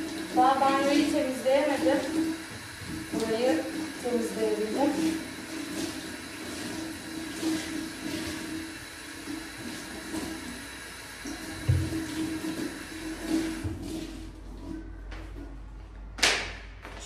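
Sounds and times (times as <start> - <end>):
water running from tap: 0.0 - 14.6.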